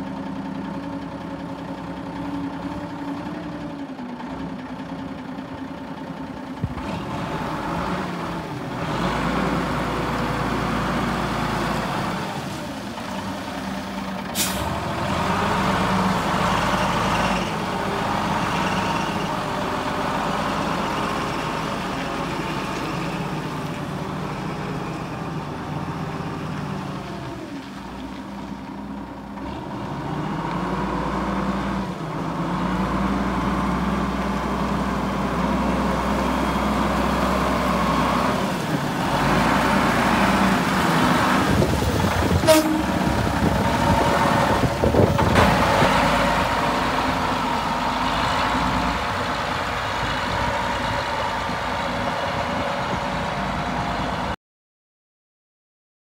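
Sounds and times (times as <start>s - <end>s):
forklift diesel engine running: 0.0s - 54.4s.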